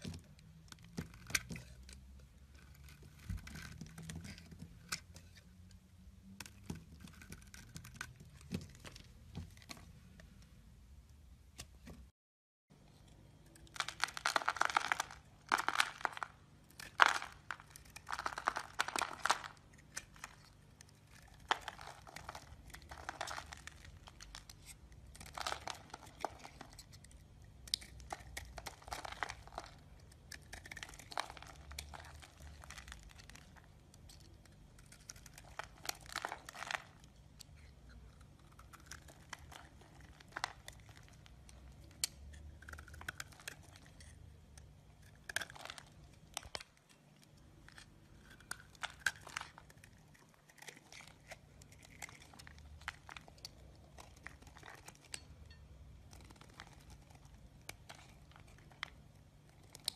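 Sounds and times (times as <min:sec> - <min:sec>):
knife shaving soap: 0:00.0 - 0:09.8, 0:12.8 - 0:59.9.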